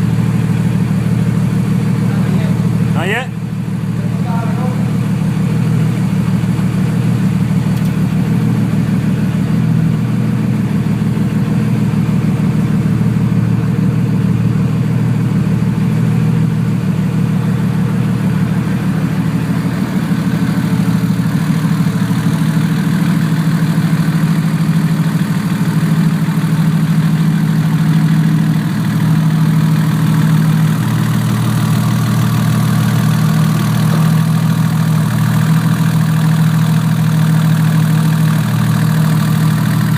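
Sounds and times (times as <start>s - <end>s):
turbocharged engine idling: 0.0s - 39.9s.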